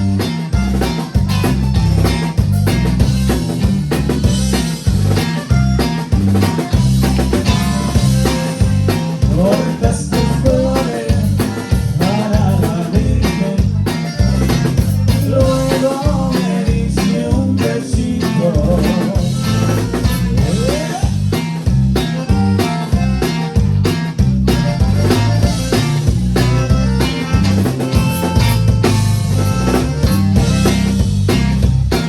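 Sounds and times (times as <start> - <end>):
bass line: 0.0 - 32.0
drums steady beat: 0.0 - 32.0.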